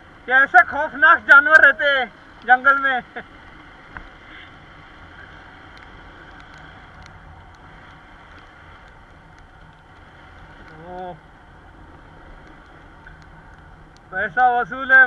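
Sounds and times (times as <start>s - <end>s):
motorcycle engine drone: 0.0s - 15.0s
tyres on wet road: 0.0s - 15.0s
faint ticks: 2.1s - 14.4s.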